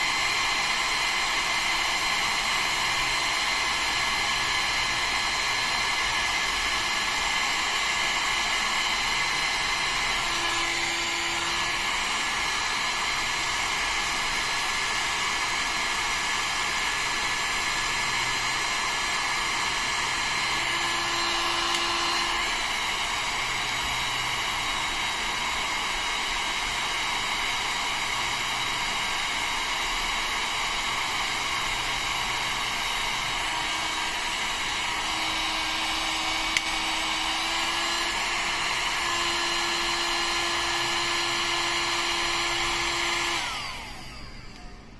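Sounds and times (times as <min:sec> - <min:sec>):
heat gun fan whining: 0:00.0 - 0:44.9.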